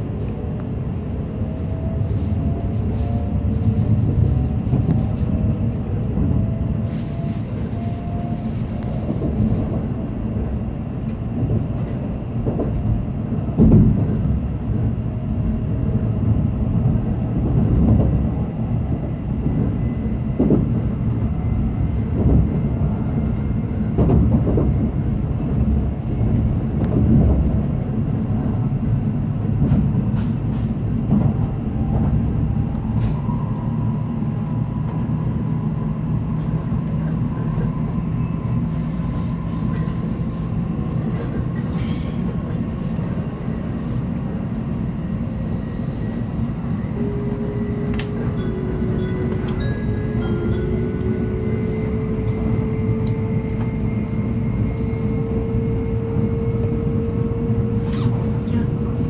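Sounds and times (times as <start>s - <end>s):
low rumble of train wheels: 0.0s - 59.0s.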